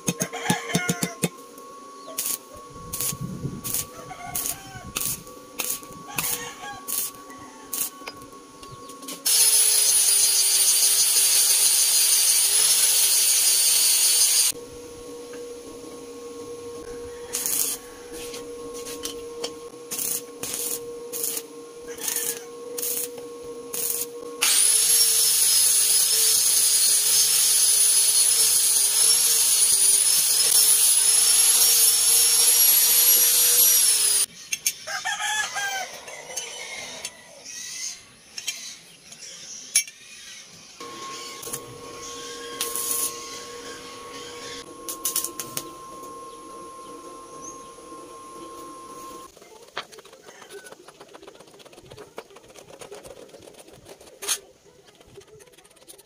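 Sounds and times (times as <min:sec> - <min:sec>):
angle grinder grinding steel: 0:00.0 - 0:34.8, 0:36.0 - 0:49.4.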